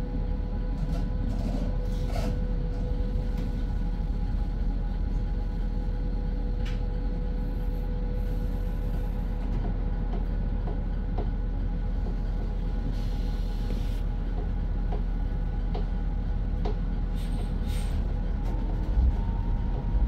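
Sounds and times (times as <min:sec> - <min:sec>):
bus rumble: 0:00.0 - 0:20.0.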